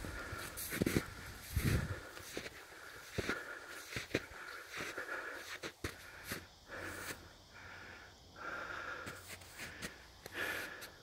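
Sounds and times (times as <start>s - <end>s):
person breathing: 0.0s - 11.0s.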